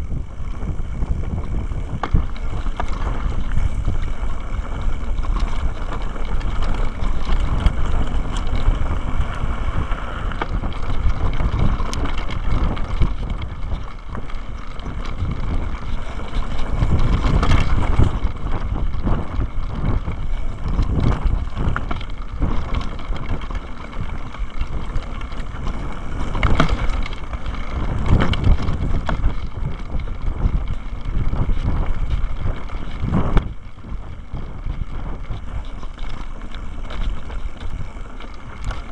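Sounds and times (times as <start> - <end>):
bike frame knocking and rattling: 0.0 - 38.9
wind rumble on microphone: 0.0 - 38.9.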